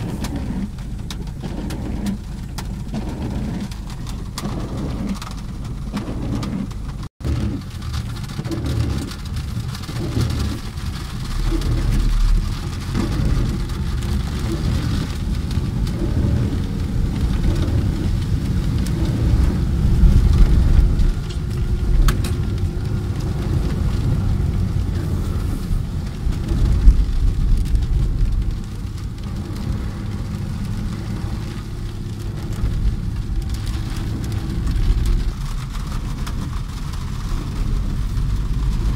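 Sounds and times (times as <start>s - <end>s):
car engine and tyres on wet road: 0.0s - 38.9s
rain on a car: 0.0s - 38.9s
water gushing from a drain: 0.0s - 38.9s.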